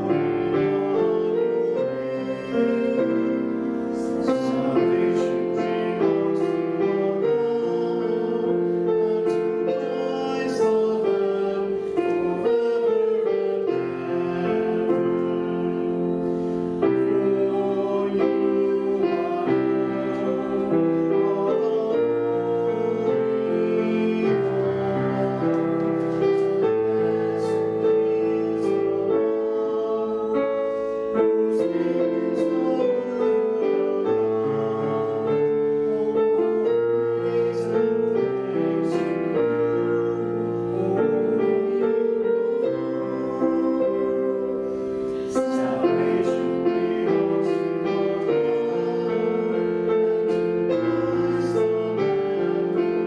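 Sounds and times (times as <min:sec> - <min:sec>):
keyboard playing slow hymn-like chords: 0:00.0 - 0:53.0.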